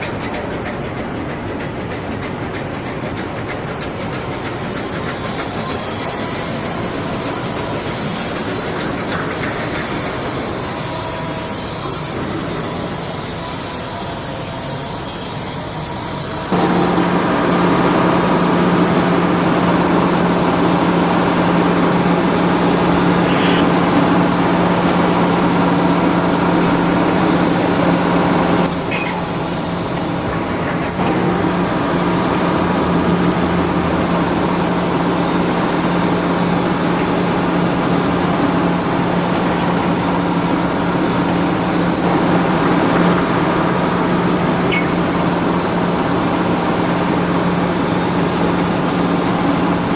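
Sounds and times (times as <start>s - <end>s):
model excavator motors humming: 0.0s - 49.9s.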